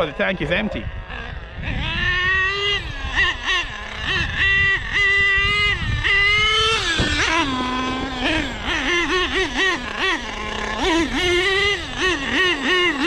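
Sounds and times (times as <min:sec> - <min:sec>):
nitro engine revving: 0:00.0 - 0:13.0.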